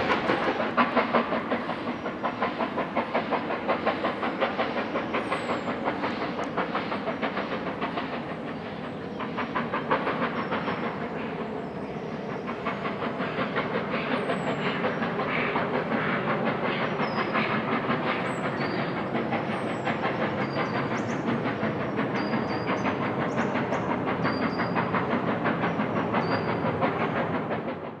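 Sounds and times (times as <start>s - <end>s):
hiss of steam: 0.0s - 28.0s
steam train clatter and exhaust: 0.0s - 28.0s.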